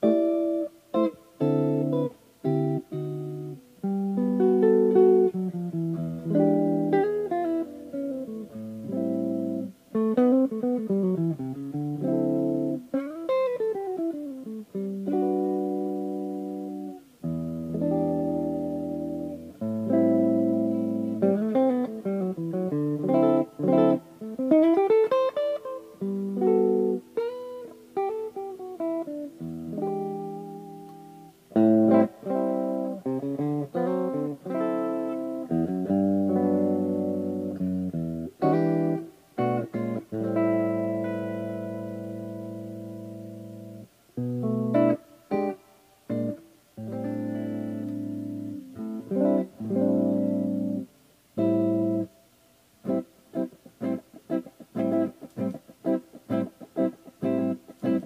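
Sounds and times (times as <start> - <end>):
electric guitar playing: 0.0 - 58.0.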